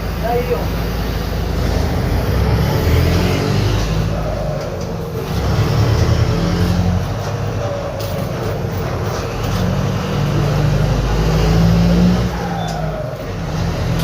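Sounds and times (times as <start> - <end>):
bus diesel engine under load: 0.0 - 14.0.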